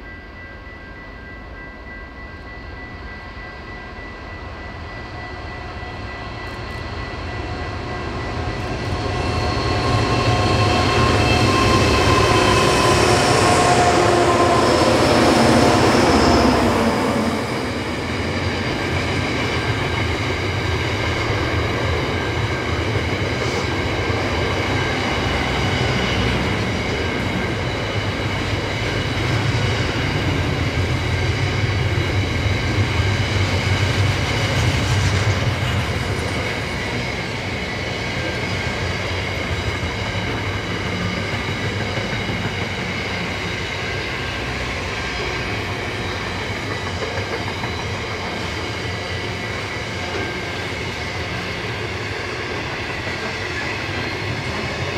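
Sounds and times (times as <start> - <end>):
diesel train engine passing: 3.0 - 54.9.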